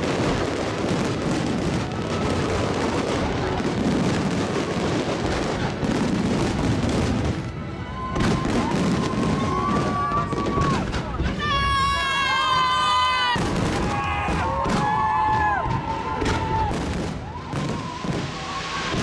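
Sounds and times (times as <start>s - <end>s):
crowd walking and talking: 0.0s - 19.0s
fireworks banging: 0.0s - 19.0s.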